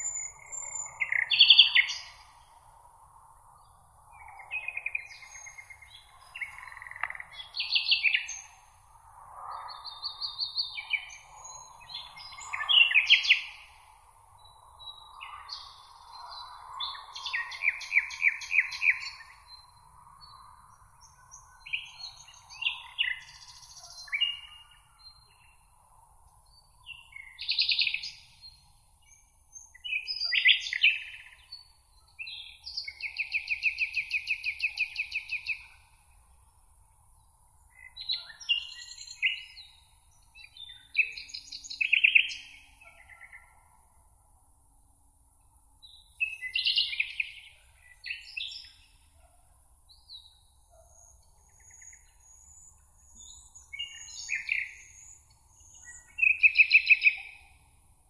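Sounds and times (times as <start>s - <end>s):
songbirds singing and trilling: 0.0s - 44.1s, 45.0s - 58.0s.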